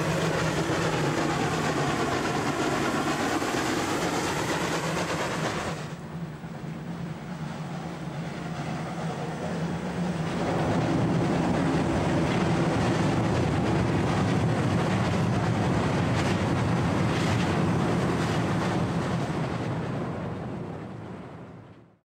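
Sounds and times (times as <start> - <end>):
train rumbling over bridge: 0.0 - 22.0.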